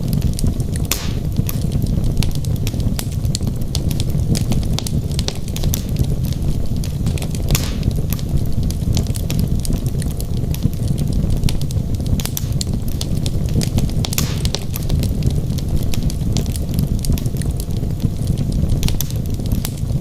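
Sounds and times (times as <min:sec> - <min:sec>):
fire hissing: 0:00.0 - 0:20.0
flames rumbling: 0:00.0 - 0:20.0
logs crackling and popping: 0:00.0 - 0:20.0.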